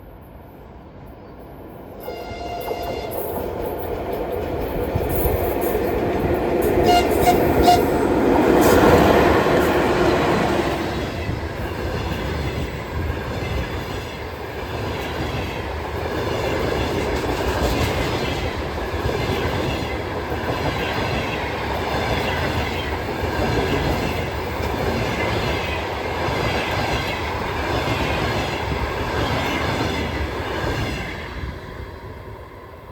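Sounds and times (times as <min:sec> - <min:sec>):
electric locomotive passing: 0:00.0 - 0:32.9.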